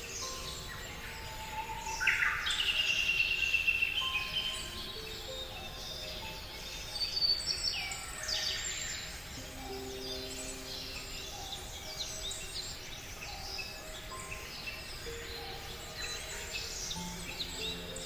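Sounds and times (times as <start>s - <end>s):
small birds chirping: 0.0s - 18.0s
soft background music: 0.0s - 18.0s.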